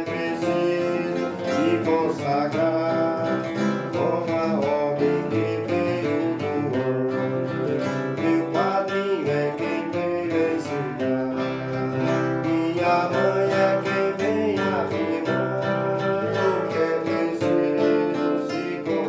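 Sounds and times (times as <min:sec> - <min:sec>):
strummed acoustic guitar: 0:00.0 - 0:19.0.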